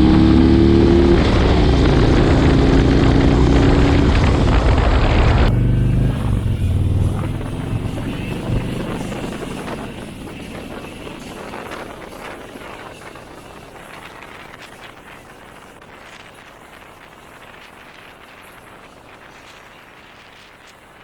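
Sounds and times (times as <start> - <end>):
motorcycle engine running low: 0.0 - 19.7
weak crackly noise: 1.2 - 21.0.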